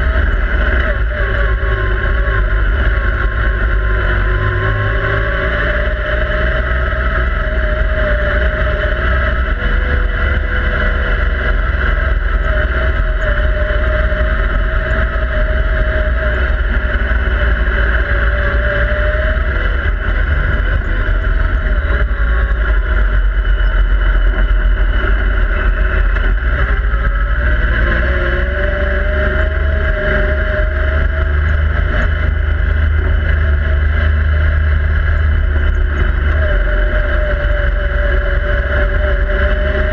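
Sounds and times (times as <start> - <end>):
low rumble of rough ground: 0.0 - 39.9
vehicle engine running: 0.0 - 39.9.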